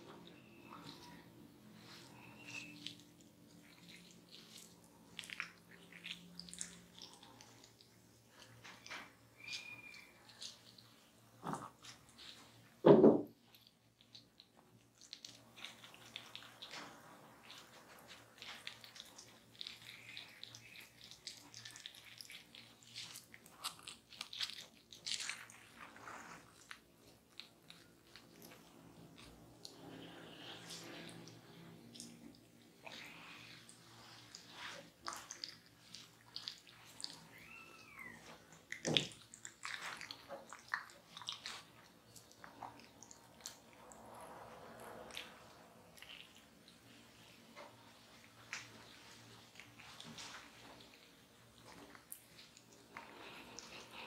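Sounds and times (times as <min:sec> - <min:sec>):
wet squishing of fruit pulp on skin: 0:00.0 - 0:12.5, 0:13.5 - 0:54.0.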